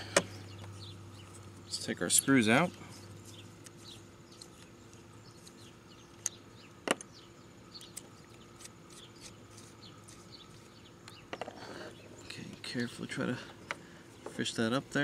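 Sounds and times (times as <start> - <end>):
faint outdoor background: 0.0 - 15.0
bird chirps: 0.2 - 15.0.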